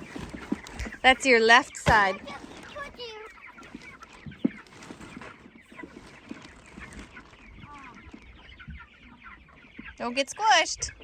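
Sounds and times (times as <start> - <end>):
chickens clucking and peeping: 0.0 - 11.0.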